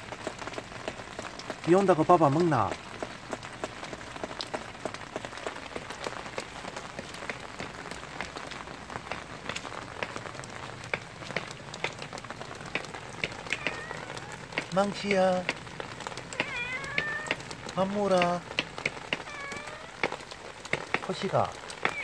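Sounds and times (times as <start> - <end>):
raindrops hitting close by: 0.0 - 22.0
steady rain falling: 0.0 - 22.0.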